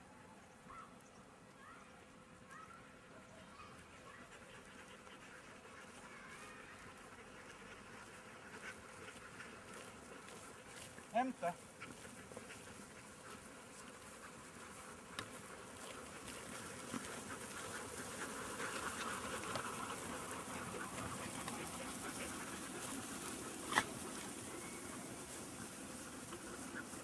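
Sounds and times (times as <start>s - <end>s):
sheep hooves pattering on grass: 2.4s - 27.0s.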